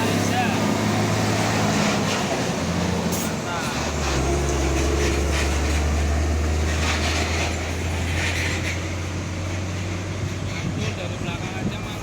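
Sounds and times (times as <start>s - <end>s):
truck diesel engine: 0.0s - 12.0s.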